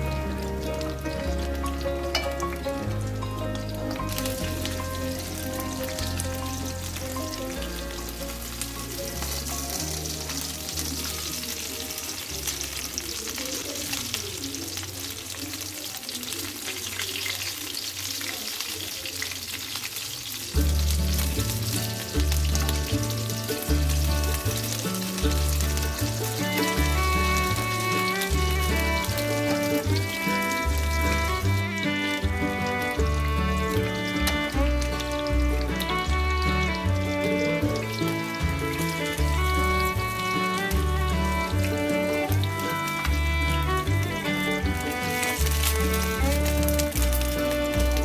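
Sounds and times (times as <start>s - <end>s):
food sizzling in a pan: 0.0s - 48.0s
stirring in a pan: 0.0s - 48.0s.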